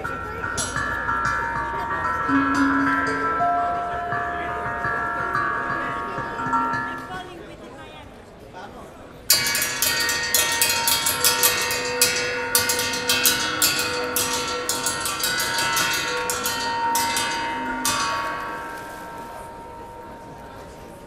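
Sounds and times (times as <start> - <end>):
metal percussion ringing: 0.0 - 7.6, 9.3 - 21.0.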